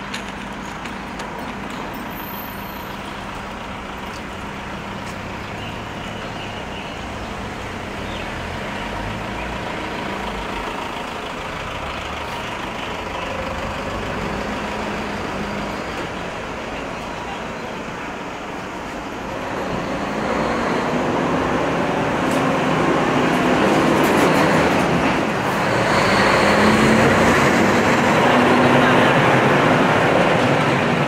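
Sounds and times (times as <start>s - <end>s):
heavy vehicle engine rumble: 0.0s - 31.0s
street traffic noise: 0.0s - 31.0s.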